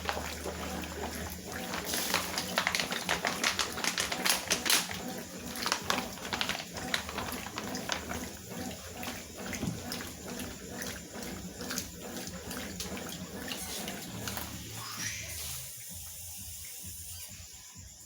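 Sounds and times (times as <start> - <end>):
water sloshing in washing machine: 0.0 - 18.0.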